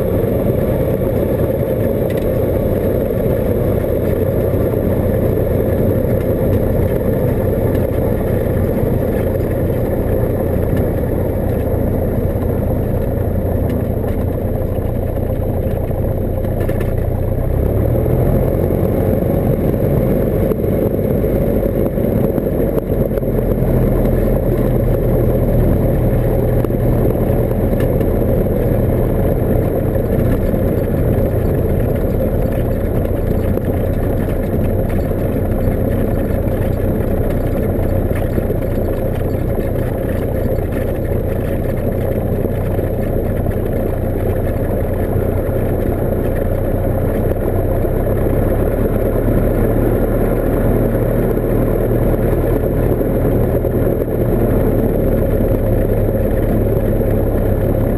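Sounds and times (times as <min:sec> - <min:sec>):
propeller plane engine running: 0:00.0 - 0:57.9.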